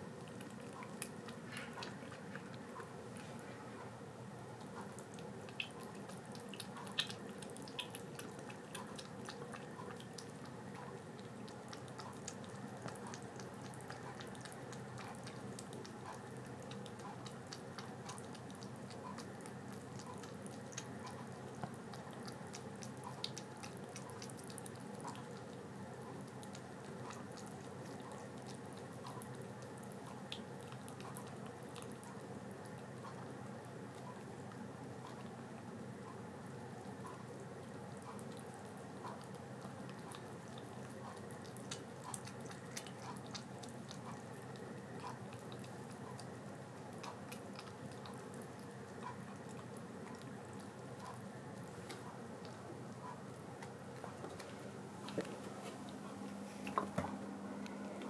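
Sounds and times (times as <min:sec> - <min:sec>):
kitten suckling wet clicks: 0:00.0 - 0:03.3, 0:04.4 - 0:56.4
low background hum: 0:00.0 - 0:58.0.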